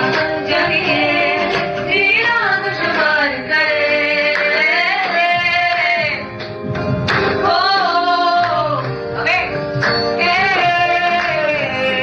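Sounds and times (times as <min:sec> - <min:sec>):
woman singing: 0:00.0 - 0:06.2, 0:07.4 - 0:09.6, 0:10.2 - 0:12.0
musical accompaniment: 0:00.0 - 0:12.0.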